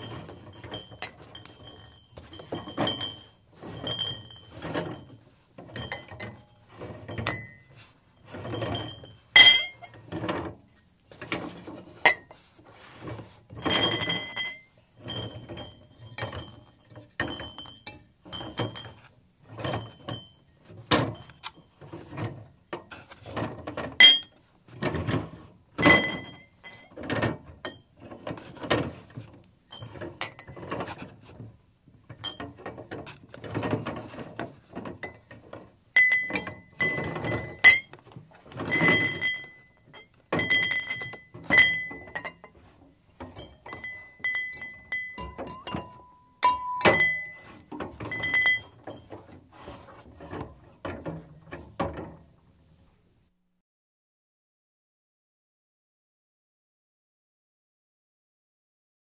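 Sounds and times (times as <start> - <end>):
items clinking in a refrigerator: 0.0 - 52.9.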